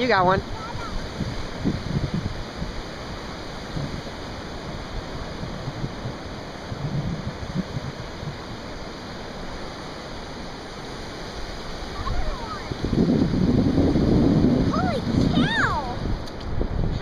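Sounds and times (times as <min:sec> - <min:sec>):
surf washing on beach: 0:00.0 - 0:17.0
wind gusting on microphone: 0:00.0 - 0:17.0.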